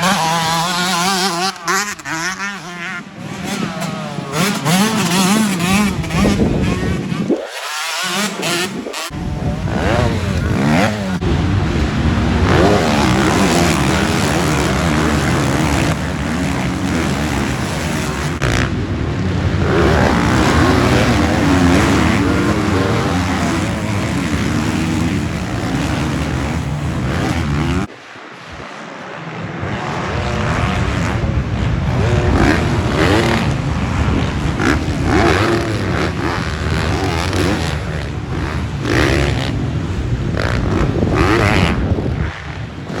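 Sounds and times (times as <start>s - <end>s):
motocross bike engines revving: 0.0s - 43.0s.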